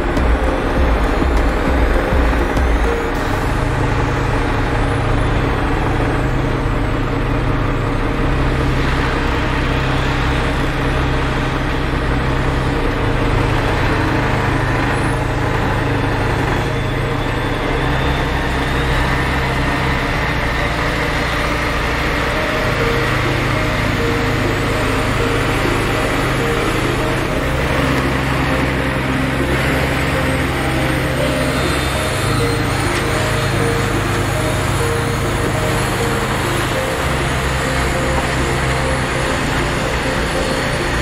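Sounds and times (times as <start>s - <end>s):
diesel truck engine droning: 0.0s - 41.0s
tyre and road noise: 0.0s - 41.0s.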